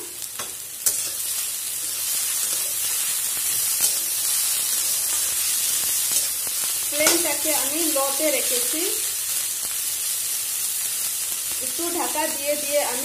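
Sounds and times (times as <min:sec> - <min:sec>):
greens sizzling in hot oil: 0:00.0 - 0:13.0.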